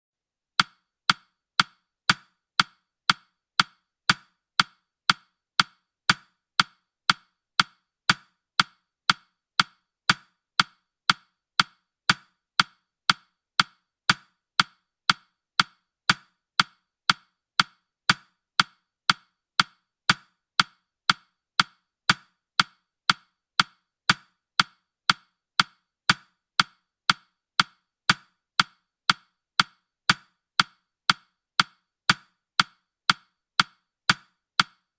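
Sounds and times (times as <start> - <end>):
sharp woody ticking: 0.6 - 34.9.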